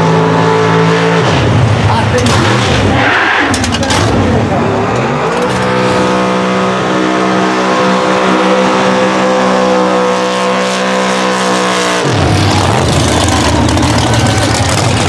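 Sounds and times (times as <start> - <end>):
car engine revving high: 0.0 - 15.0.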